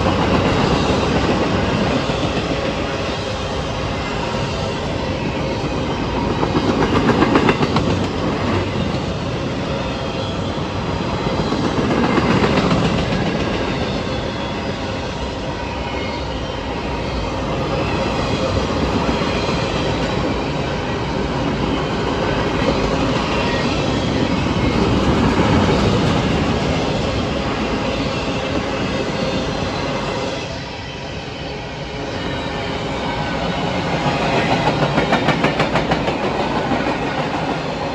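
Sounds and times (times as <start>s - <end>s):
train wheels rumbling on rails: 0.0s - 37.9s.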